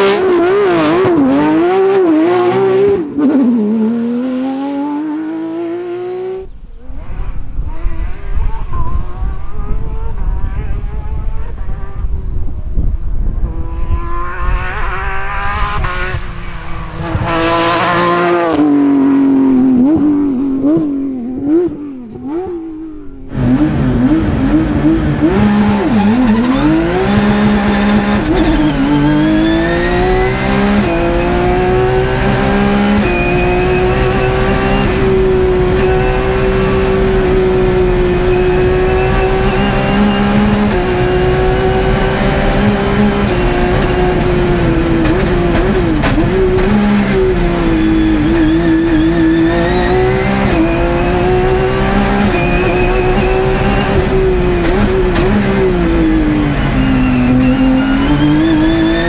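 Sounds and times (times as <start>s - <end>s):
rally car engine revving: 0.0s - 12.4s, 13.3s - 59.0s.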